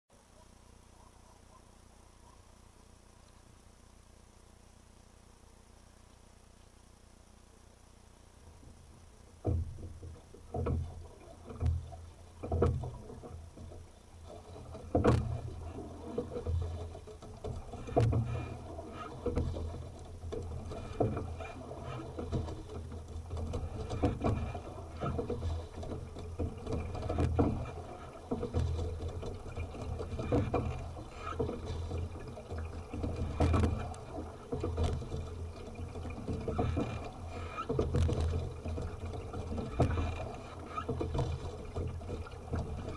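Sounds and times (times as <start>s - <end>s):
water splashing against hull: 8.2s - 42.9s
oars clicking: 8.5s - 42.9s.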